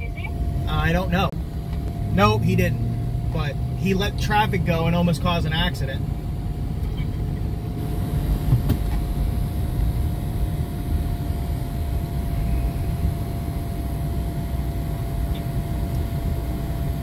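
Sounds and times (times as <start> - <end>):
engine and road rumble: 0.0 - 17.0
thin steady whine: 0.0 - 17.0.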